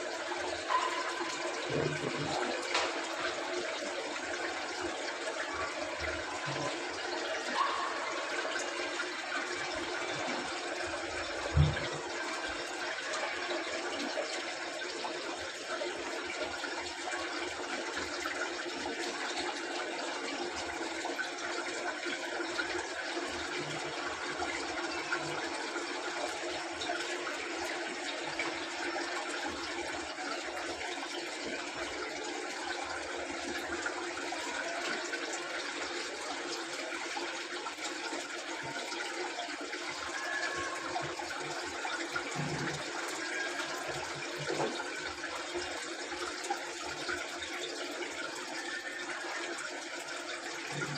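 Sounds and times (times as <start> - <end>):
water rushing through drum: 0.0 - 50.9.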